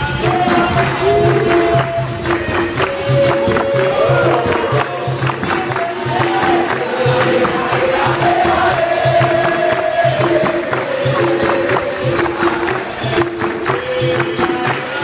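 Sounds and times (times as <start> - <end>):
pandeiro: 0.0 - 15.0
people singing: 0.0 - 15.0
steady drum beat: 0.0 - 15.0.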